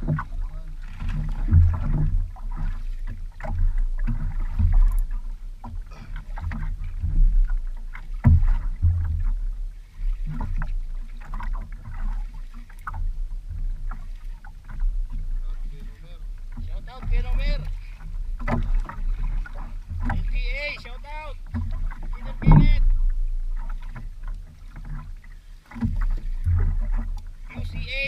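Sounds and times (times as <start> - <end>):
knocks and thuds through boat: 0.0 - 28.0
water sloshing against boat hull: 0.0 - 28.0.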